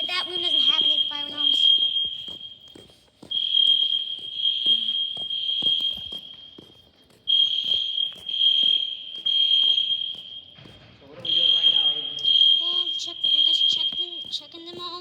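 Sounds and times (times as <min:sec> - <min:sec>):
fire alarm tone: 0:00.0 - 0:15.0.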